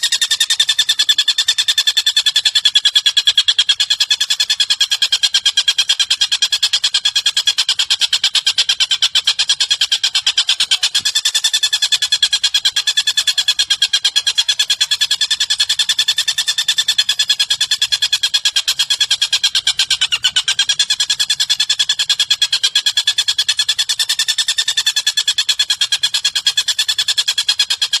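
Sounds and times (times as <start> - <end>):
bird rattling trill: 0.0 - 28.0.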